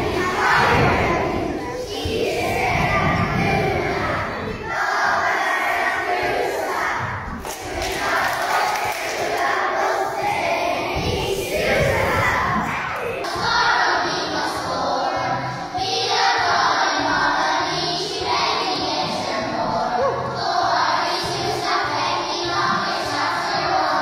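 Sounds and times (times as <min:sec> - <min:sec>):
children chanting and shouting: 0:00.0 - 0:24.0
children singing: 0:00.0 - 0:24.0.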